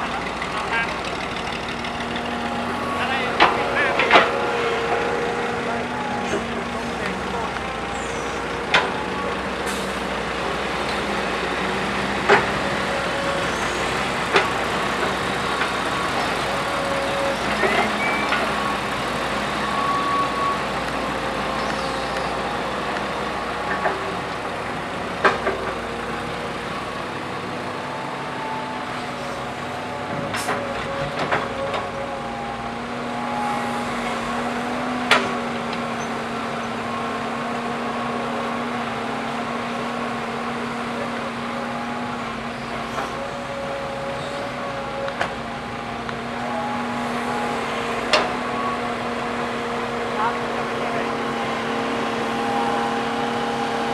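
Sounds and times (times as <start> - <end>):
diesel machinery running: 0.0 - 53.9.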